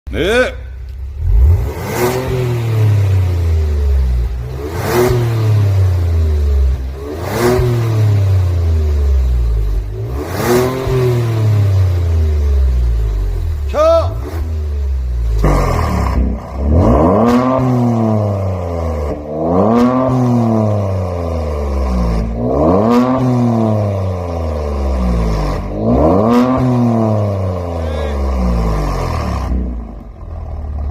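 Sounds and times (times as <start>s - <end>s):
car engine revving: 0.8s - 30.9s.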